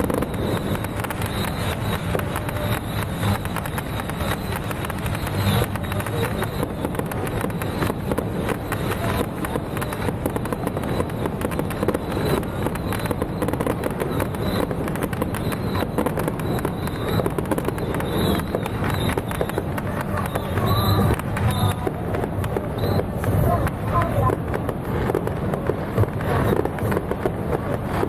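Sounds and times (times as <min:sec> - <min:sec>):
faint voices: 0:00.0 - 0:28.0
fireworks crackling: 0:00.0 - 0:28.0.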